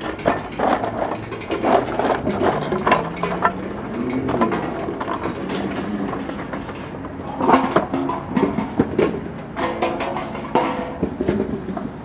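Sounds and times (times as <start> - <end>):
clicks rattles and scrapes: 0.0 - 12.0.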